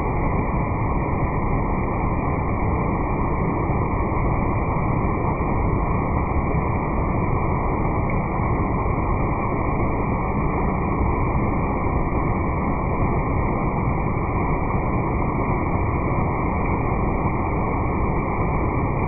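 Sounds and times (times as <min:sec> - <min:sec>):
muffled stream rushing: 0:00.0 - 0:19.0.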